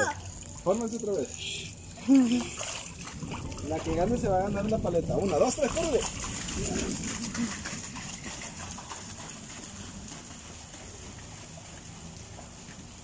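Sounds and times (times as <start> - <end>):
rain boots splashing through water: 0.0 - 13.0.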